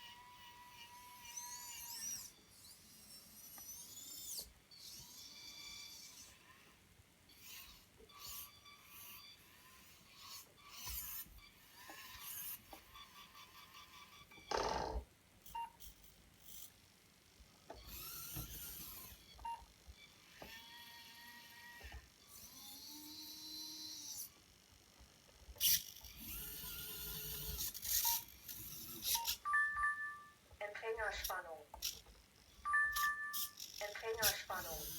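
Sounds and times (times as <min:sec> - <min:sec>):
electric motors whining: 0:00.0 - 0:15.0, 0:17.7 - 0:24.6, 0:25.6 - 0:29.8, 0:31.0 - 0:34.9.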